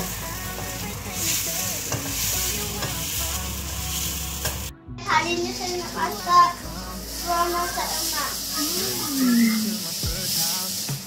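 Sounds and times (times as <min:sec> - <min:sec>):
paste sizzling in a wok: 0:00.0 - 0:04.7, 0:05.5 - 0:11.0.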